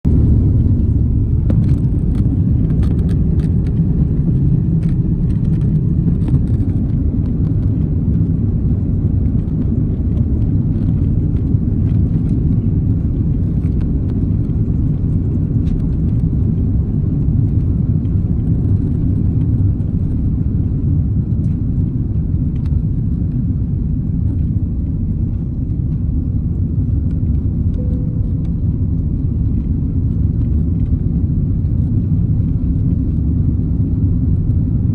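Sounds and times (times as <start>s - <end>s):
jet engine cabin rumble: 0.0s - 34.9s.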